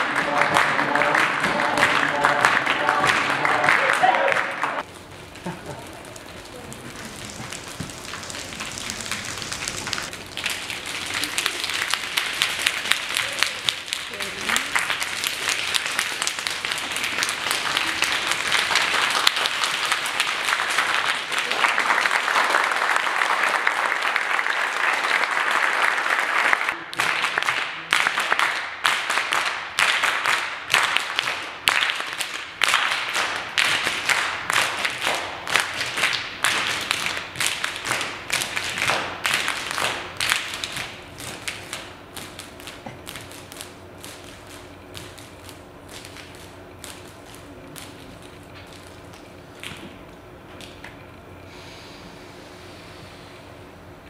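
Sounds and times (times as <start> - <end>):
crowd clapping: 0.0 - 49.8.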